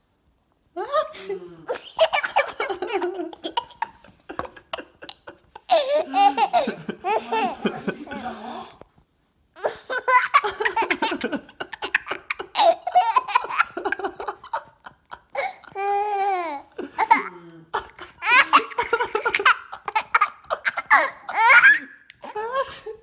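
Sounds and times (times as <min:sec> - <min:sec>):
baby laughing: 0:01.7 - 0:08.0, 0:09.6 - 0:22.4.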